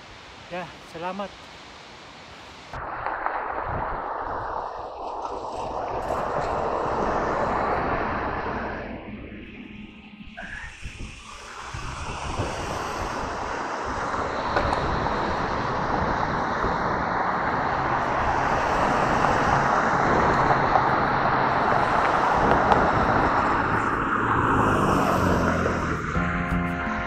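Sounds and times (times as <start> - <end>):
wind rushing: 2.6 - 27.0
bike road noise on pavement: 2.7 - 27.0.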